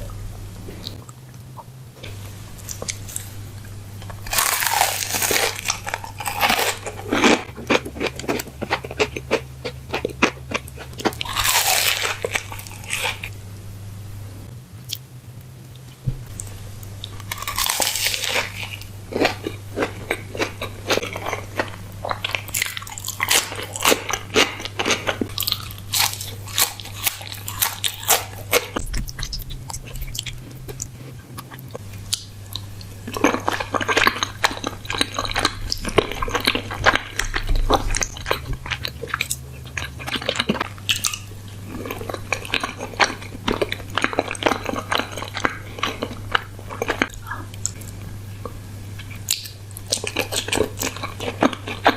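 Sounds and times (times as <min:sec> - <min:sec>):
crunching bites and chewing: 0:04.0 - 0:13.4, 0:15.8 - 0:51.9.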